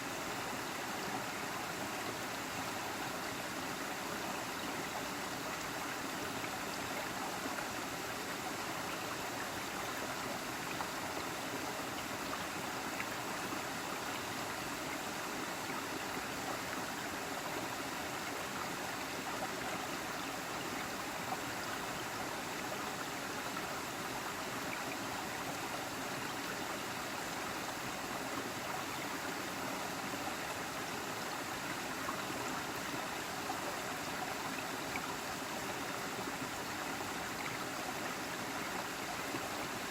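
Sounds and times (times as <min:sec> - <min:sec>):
waterfall and stream flowing: 0:00.0 - 0:39.9.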